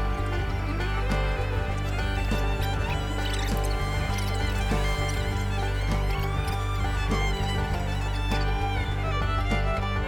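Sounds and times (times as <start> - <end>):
bass line: 0.0 - 10.0
fiddle music: 0.0 - 10.0.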